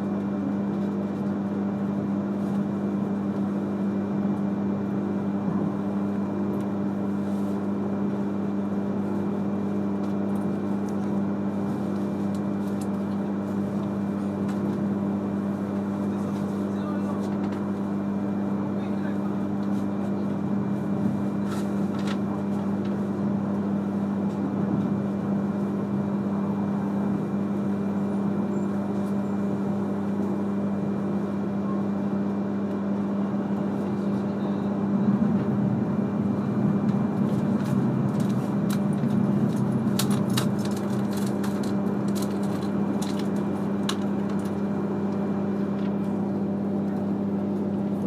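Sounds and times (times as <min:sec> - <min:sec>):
train cabin running noise: 0:00.0 - 0:48.0.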